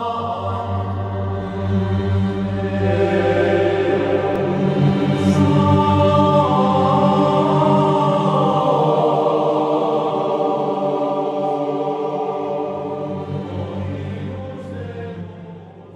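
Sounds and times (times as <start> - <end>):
choir-like chanting voices: 0.0 - 15.9.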